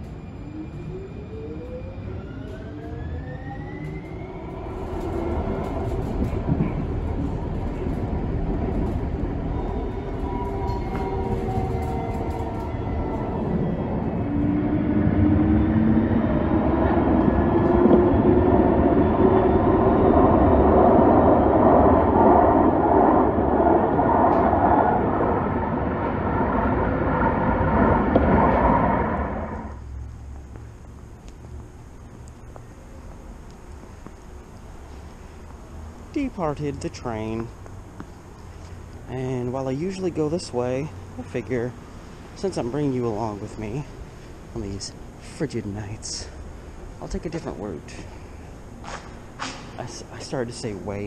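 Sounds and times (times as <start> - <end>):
electric train motor whine: 0.0 - 51.0
train wheels rumbling on rails: 0.0 - 51.0.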